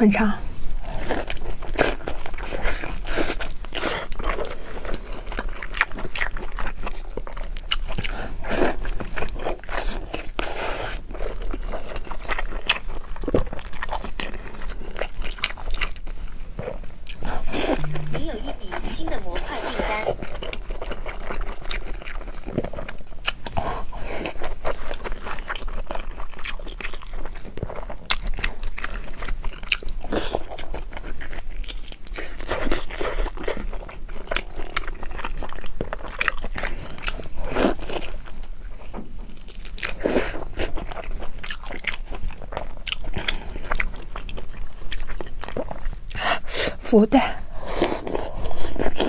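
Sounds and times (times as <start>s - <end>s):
person chewing crunchy meat: 0.5s - 49.0s.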